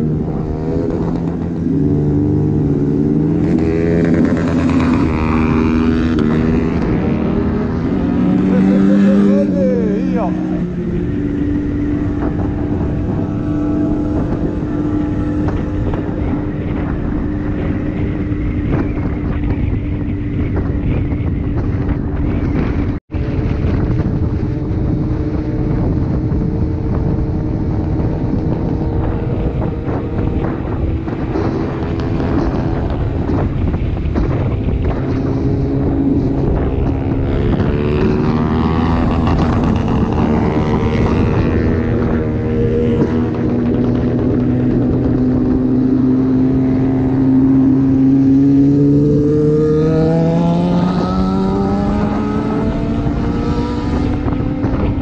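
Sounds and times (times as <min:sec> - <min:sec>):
motorcycle engine running: 0:00.0 - 0:55.0
passing motorcycle engine: 0:00.0 - 0:55.0
wind noise on microphone: 0:00.0 - 0:55.0.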